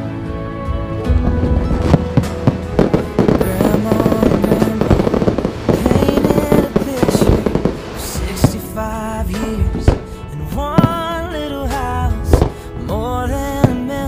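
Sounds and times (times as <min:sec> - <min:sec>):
music playing: 0:00.0 - 0:14.0
fireworks bangs and crackles: 0:01.1 - 0:14.0.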